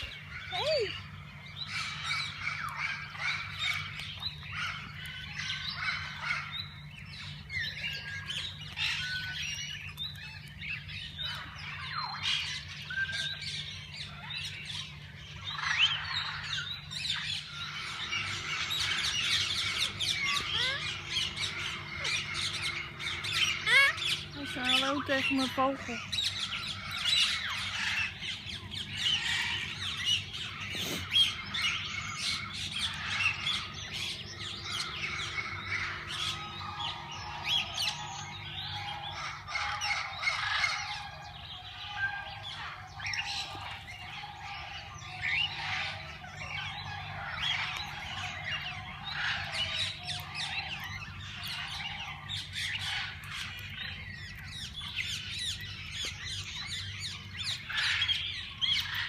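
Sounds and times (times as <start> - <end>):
parakeets chattering and squawking: 0.0 - 59.0.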